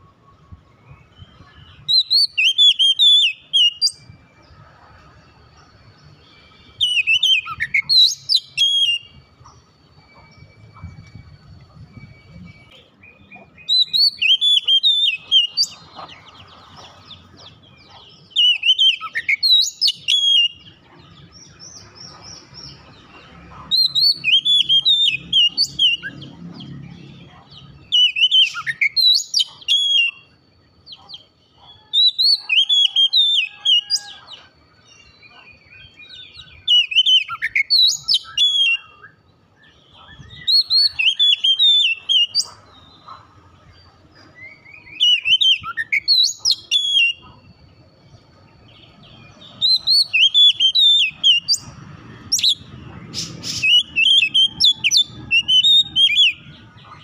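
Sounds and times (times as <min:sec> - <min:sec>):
bird whistled song: 0:00.0 - 0:05.0, 0:05.9 - 0:57.0
bird twittering: 0:06.1 - 0:34.3, 0:35.0 - 0:57.0.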